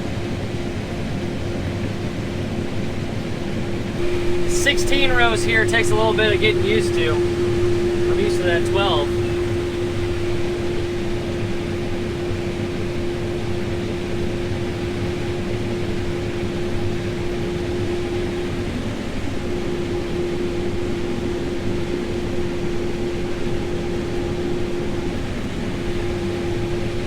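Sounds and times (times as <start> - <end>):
combine machine drone: 0.1 - 27.0
steady machine whine: 0.1 - 27.0.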